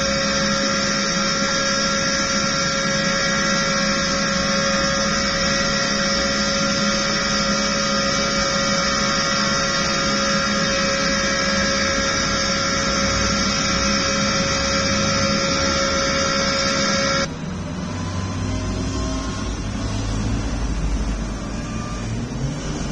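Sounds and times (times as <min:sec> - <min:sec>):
race truck engine running: 0:00.0 - 0:22.9.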